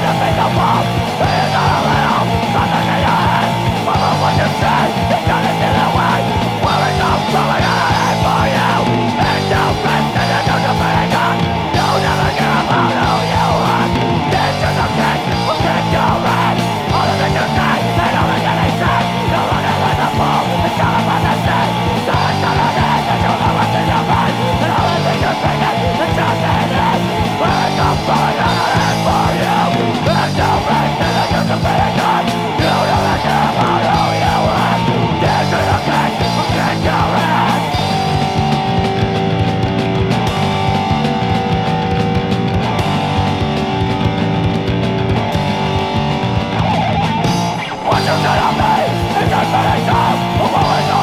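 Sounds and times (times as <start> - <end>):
hardcore punk song: 0.0 - 51.0.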